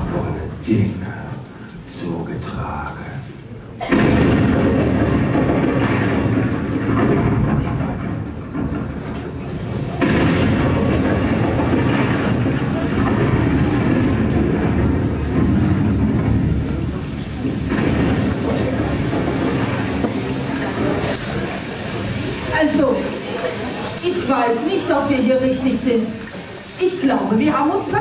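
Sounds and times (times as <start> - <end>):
rain: 0.0 - 28.0
rumbling thunder: 3.8 - 28.0.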